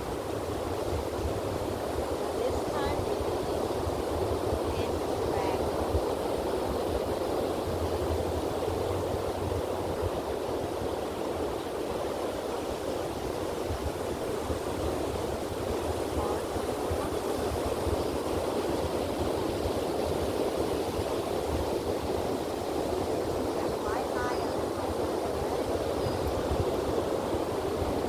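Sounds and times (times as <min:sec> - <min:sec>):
ocean surf breaking: 0:00.0 - 0:28.0.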